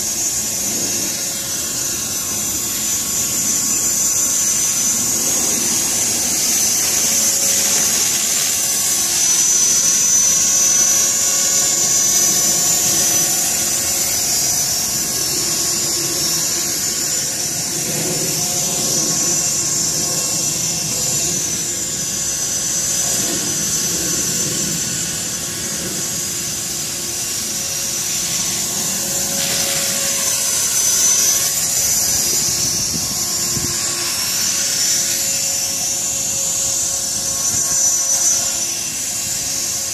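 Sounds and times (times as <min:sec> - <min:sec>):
rotor blades whooshing: 0:00.0 - 0:36.9
helicopter motor whine: 0:00.0 - 0:39.9.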